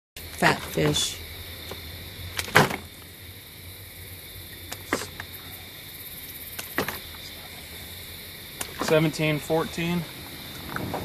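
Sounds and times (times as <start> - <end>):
steady background hum: 0.2 - 11.0.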